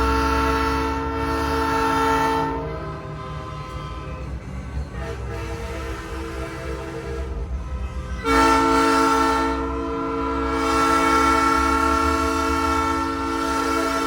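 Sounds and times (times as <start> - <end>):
train horn chord blast: 0.0 - 14.0.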